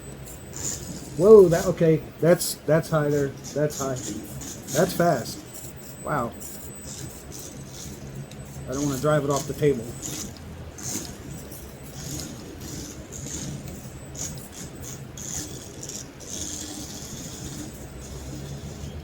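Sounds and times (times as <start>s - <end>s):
toy car motor whirring: 0.0s - 19.0s.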